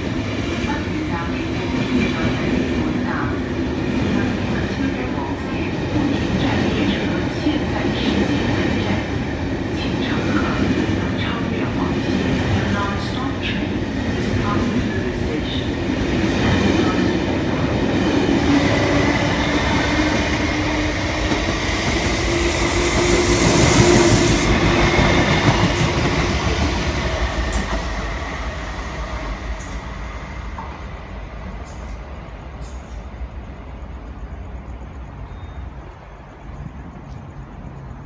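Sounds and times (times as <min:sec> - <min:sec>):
electric train rushing past: 0:00.0 - 0:38.0.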